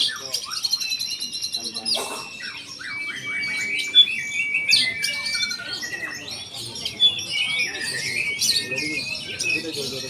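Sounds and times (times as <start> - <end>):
bird singing whistles and trills: 0.0 - 10.0.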